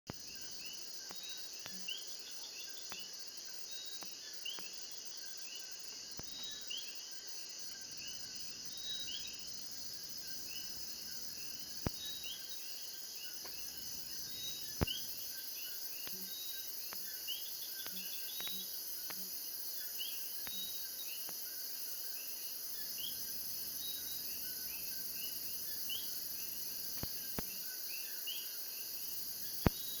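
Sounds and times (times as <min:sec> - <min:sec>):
frogs chirping: 0:00.1 - 0:30.0
insects droning: 0:00.1 - 0:30.0.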